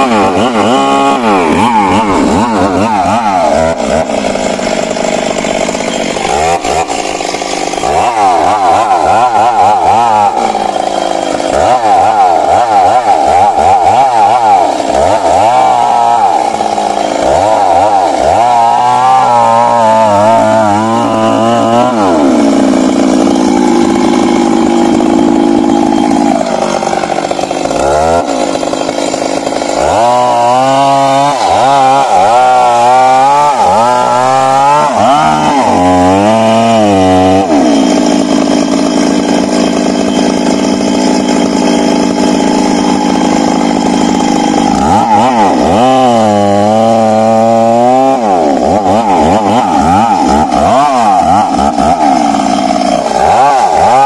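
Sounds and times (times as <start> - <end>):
chainsaw cutting at high revs: 0.0 - 54.0.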